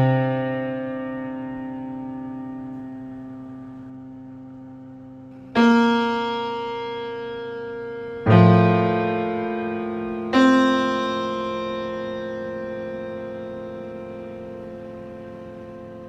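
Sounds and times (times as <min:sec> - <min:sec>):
slow instrumental chords: 0:00.0 - 0:16.0.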